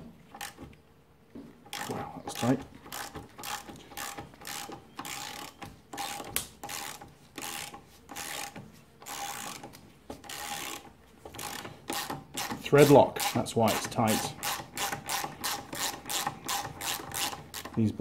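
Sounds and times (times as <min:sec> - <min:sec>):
socket ratchet clicking: 0:01.7 - 0:17.9.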